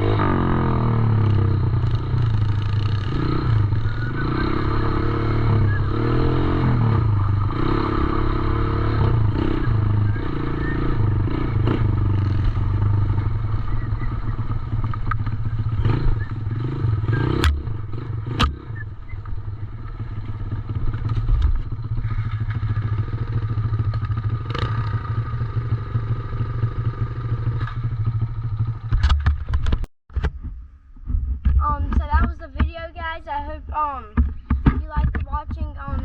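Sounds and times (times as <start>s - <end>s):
dirt bike engine running: 0.0s - 29.9s.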